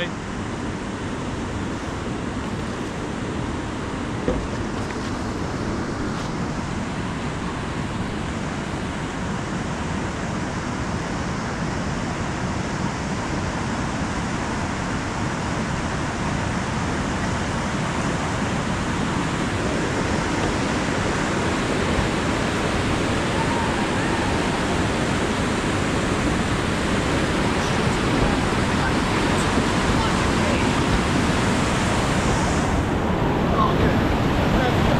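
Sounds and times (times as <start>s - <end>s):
whitewater rapids roaring: 0.0s - 34.9s.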